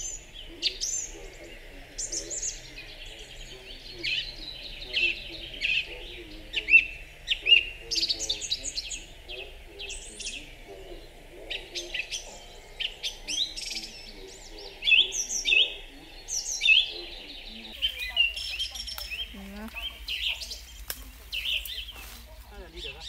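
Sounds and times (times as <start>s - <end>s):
songbirds chirping: 0.0s - 23.0s
steady background hiss: 0.0s - 23.0s.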